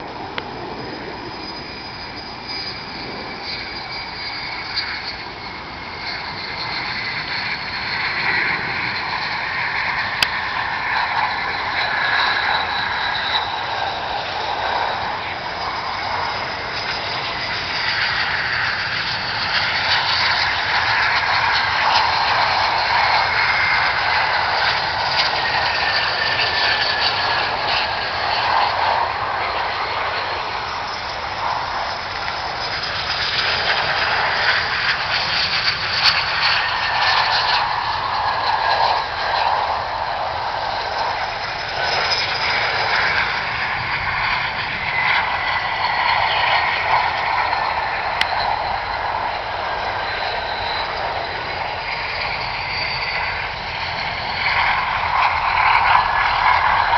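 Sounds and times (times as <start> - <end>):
jet engines rushing and whining: 0.0 - 56.9.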